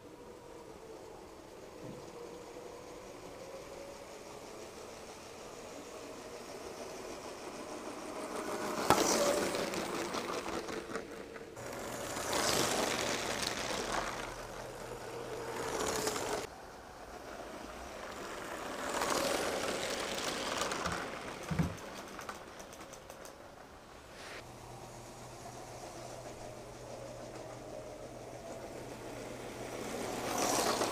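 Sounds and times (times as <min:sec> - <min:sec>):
wheels rattling on plastic track: 0:00.1 - 0:30.9
toy train motor whining: 0:01.6 - 0:16.5, 0:17.1 - 0:23.6, 0:25.1 - 0:30.9.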